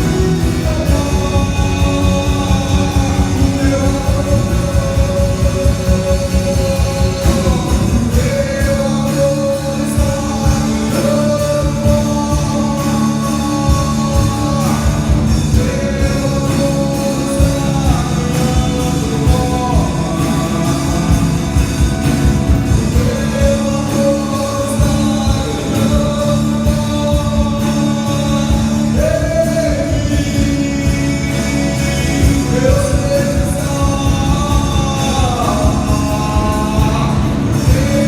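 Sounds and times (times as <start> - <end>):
guitar: 0.0 - 38.0
person singing long notes: 0.0 - 38.0
steady drum beat: 0.0 - 38.0.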